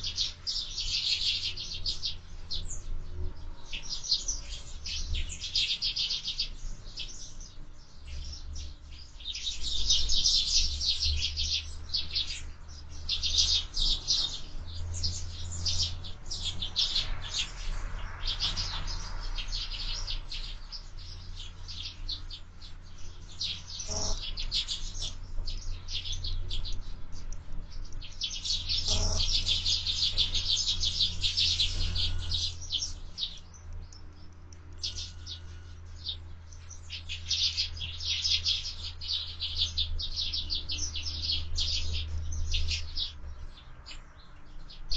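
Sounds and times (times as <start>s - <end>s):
sparrows chirping: 0.0s - 44.9s.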